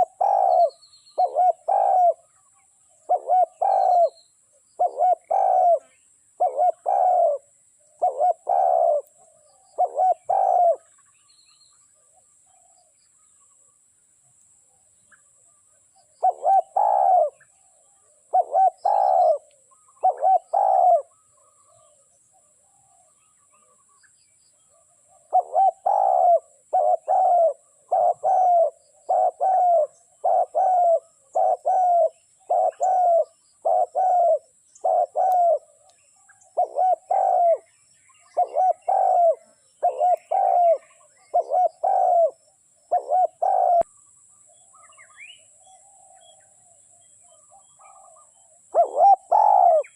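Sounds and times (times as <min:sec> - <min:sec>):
dove cooing: 0:00.0 - 0:02.4, 0:03.0 - 0:04.2, 0:04.8 - 0:11.0, 0:16.0 - 0:23.9, 0:24.7 - 0:43.9, 0:45.7 - 0:49.9.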